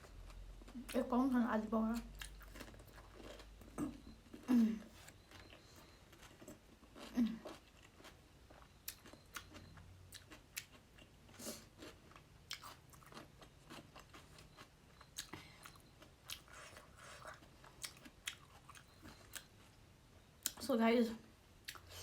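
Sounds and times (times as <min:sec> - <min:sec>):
person chewing and eating: 0:00.0 - 0:01.1, 0:01.9 - 0:20.6, 0:21.6 - 0:22.0.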